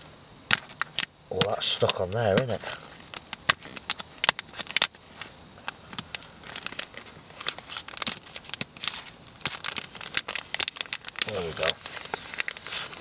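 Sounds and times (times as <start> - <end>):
foil pouch crinkling: 0.5 - 13.0.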